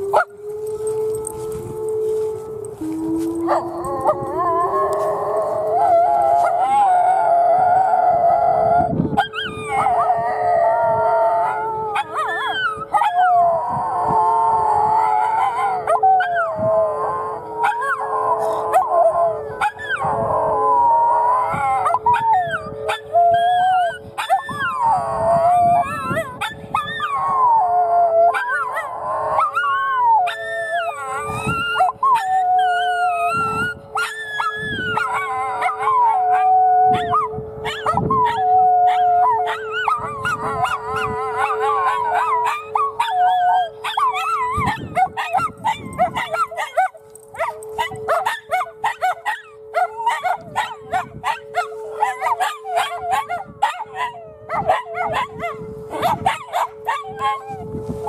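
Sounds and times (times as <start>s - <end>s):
dogs howling: 0.0s - 58.0s
warning siren steady tone: 0.0s - 58.0s.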